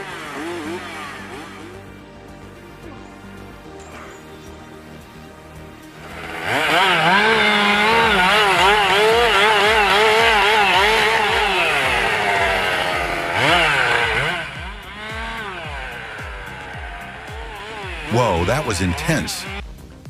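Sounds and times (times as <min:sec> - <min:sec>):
chainsaw engine revving: 0:00.0 - 0:02.4, 0:05.8 - 0:19.7.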